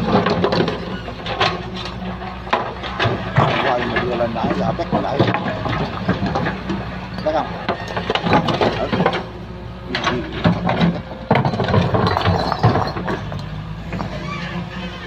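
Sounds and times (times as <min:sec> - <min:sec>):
excavator diesel engine running: 0:00.0 - 0:15.0
metallic clanks and scraping: 0:00.0 - 0:15.0.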